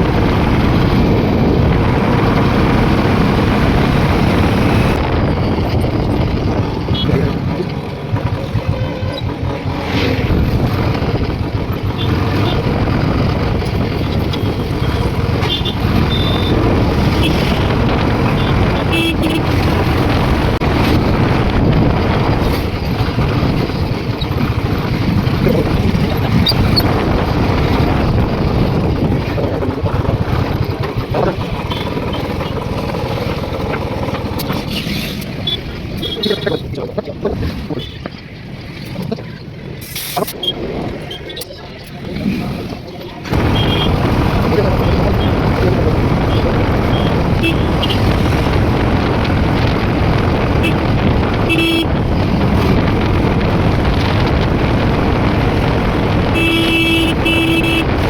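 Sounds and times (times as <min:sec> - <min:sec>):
motorcycle engine running: 0:00.0 - 0:38.6, 0:43.3 - 0:58.0
road rush: 0:00.0 - 0:58.0
wind: 0:00.0 - 0:58.0.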